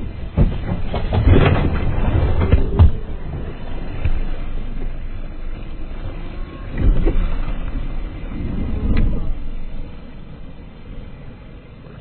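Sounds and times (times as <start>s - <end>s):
water churning beside boat: 0.0s - 12.0s.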